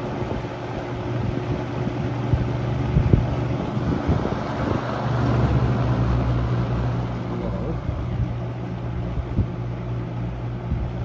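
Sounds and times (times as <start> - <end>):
box fan motor hum: 0.0 - 11.0
rush of air from fan: 0.0 - 11.0.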